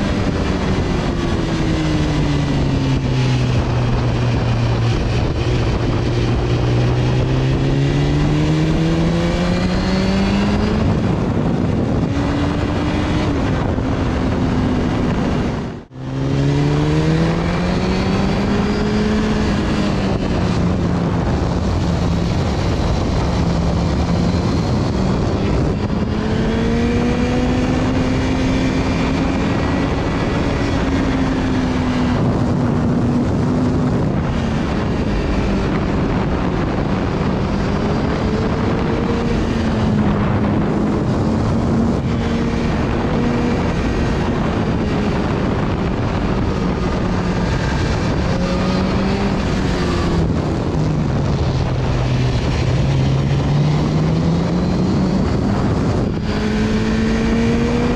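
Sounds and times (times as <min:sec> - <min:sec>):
motorcycle engine revving: 0:00.0 - 0:57.9
wind and road noise: 0:00.0 - 0:57.9.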